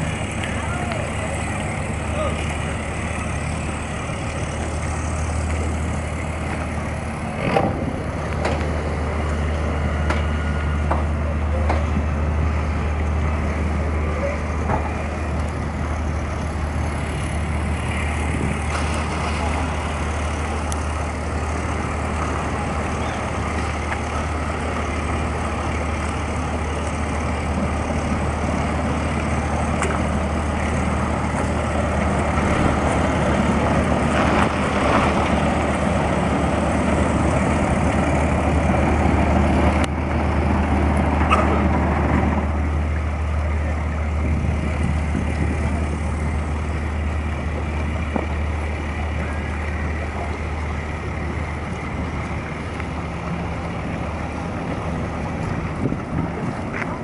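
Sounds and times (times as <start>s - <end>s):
churning water: 0.0s - 57.0s
ship engine humming: 0.0s - 57.0s.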